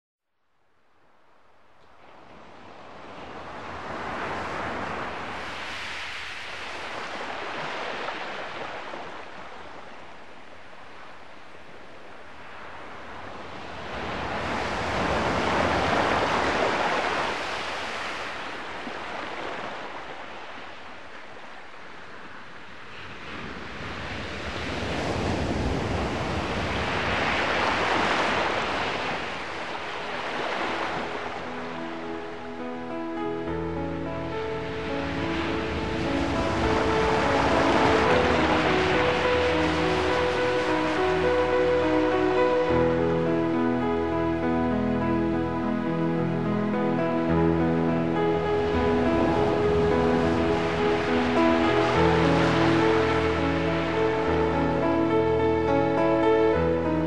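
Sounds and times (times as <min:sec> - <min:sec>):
rushing noise in waves: 0:01.8 - 0:57.0.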